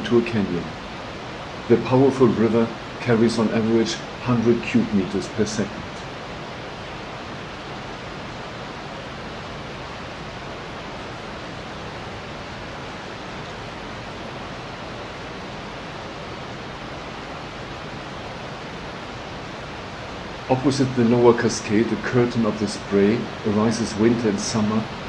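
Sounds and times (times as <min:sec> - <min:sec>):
rush of heavy falling water: 0:00.0 - 0:25.0.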